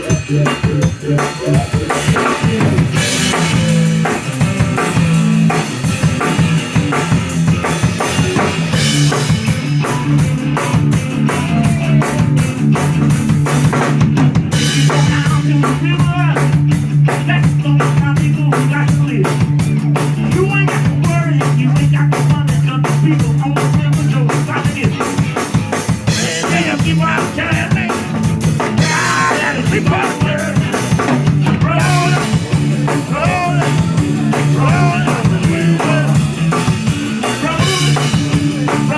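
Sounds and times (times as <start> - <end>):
drum kit beat: 0.0 - 38.9
low bass notes: 0.0 - 38.9.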